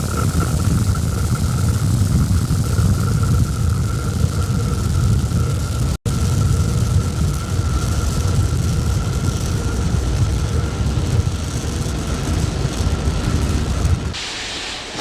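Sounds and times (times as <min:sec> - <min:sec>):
rocket engine rumble: 0:00.0 - 0:15.0.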